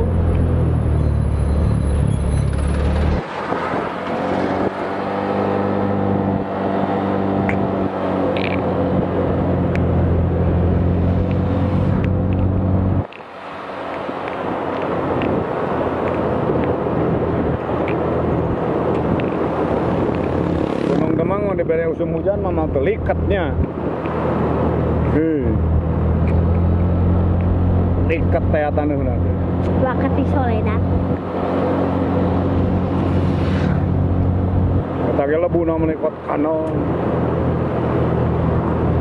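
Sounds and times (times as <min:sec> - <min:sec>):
road and wind noise: 0:00.0 - 0:39.0.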